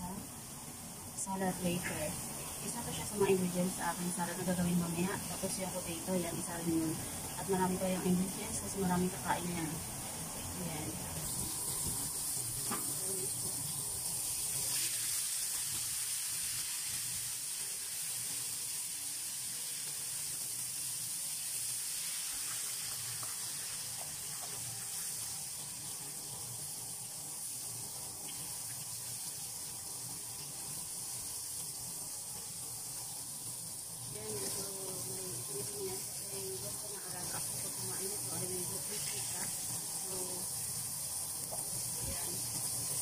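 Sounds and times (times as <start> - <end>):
fish deep-frying in oil: 0.0 - 43.0.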